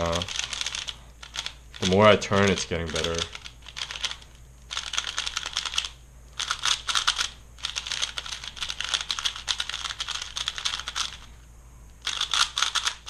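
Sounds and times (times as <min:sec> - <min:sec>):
puzzle cube clicking: 0:00.1 - 0:02.0, 0:02.6 - 0:11.3, 0:12.0 - 0:13.0.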